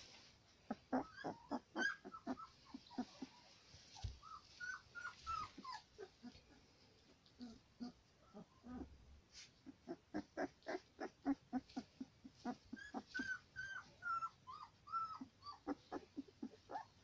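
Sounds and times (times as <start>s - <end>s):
puppy whining: 0.0s - 17.0s
puppy grunting: 0.7s - 3.4s, 5.3s - 6.7s, 7.3s - 17.0s.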